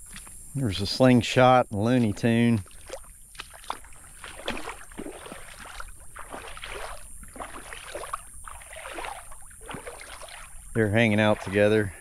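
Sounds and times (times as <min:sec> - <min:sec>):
small waves lapping on shore: 0:02.0 - 0:12.0.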